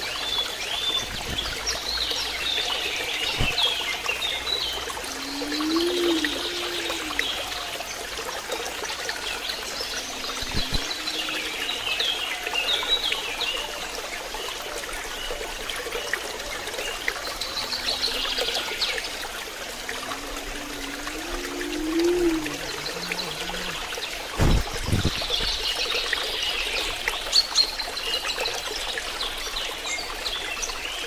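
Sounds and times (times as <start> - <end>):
water trickling into a pond: 0.0 - 31.0.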